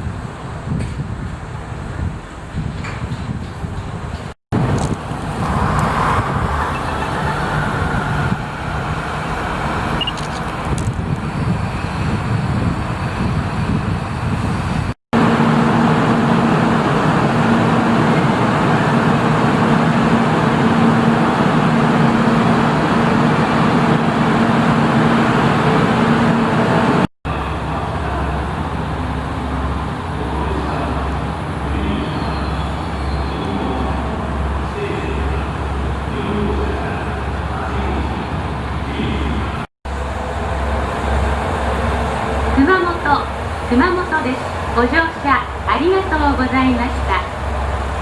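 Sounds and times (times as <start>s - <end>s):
traffic noise: 0.0s - 48.0s
vehicle engine hum: 4.6s - 48.0s.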